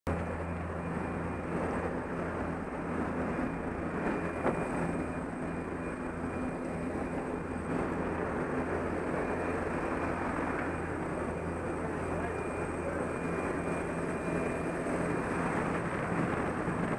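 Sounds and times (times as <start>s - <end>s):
propeller engine drone: 0.1s - 16.9s
rushing wind: 0.1s - 16.9s.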